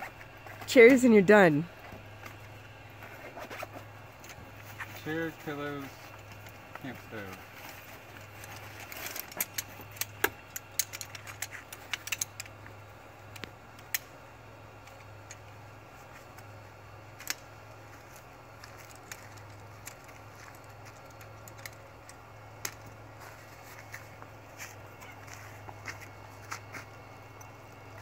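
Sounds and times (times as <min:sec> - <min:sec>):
low steady hum: 0:00.0 - 0:28.0
camping gear clicks and rattles: 0:01.9 - 0:14.1, 0:14.8 - 0:28.0.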